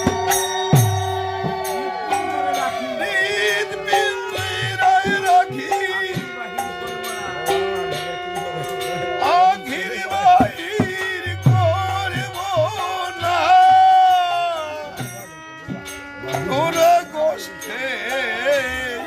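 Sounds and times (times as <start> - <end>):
wavering melody: 0.0 - 19.0.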